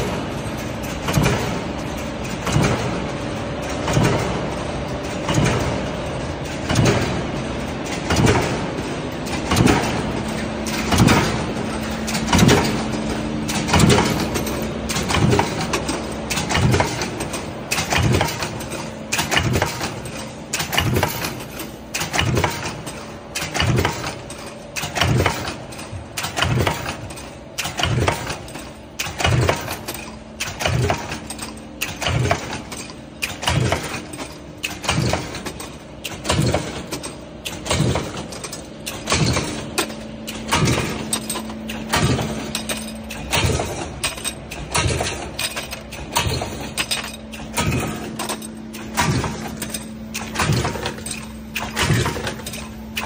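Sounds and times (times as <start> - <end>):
motor hum: 0.0 - 53.0
power press striking: 7.9 - 53.0.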